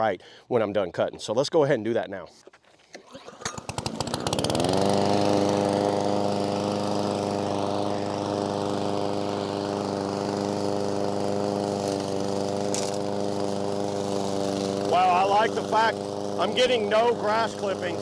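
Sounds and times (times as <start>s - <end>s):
lawn mower engine running: 2.9s - 18.0s.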